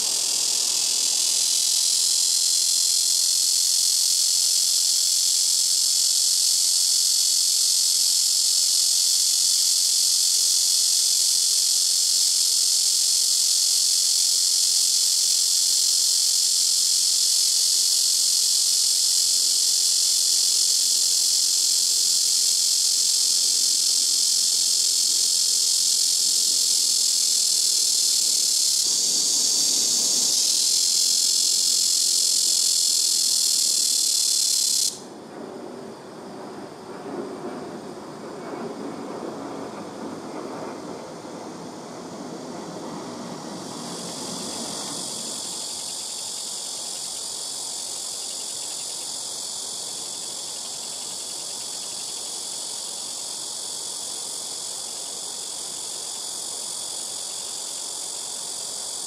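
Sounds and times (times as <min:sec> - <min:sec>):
cicada buzzing: 0:00.0 - 0:35.1, 0:40.8 - 0:59.0.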